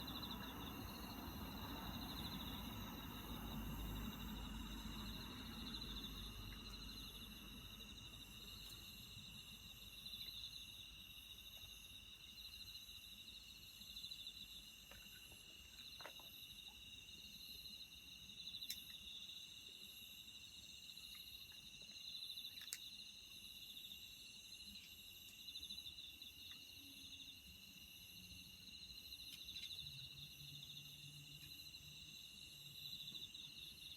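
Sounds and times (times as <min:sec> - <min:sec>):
insects chirping: 0:00.0 - 0:33.9.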